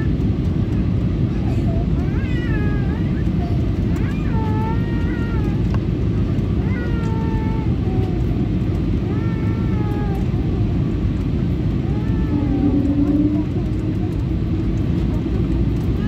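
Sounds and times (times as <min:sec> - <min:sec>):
airliner cabin noise: 0:00.0 - 0:16.0
steady low hum: 0:00.0 - 0:16.0.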